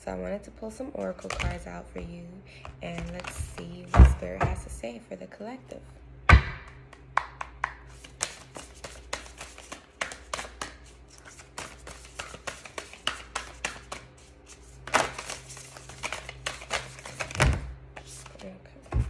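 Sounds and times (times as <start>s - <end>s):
cards being shuffled by hand: 1.0s - 4.0s, 6.7s - 19.0s.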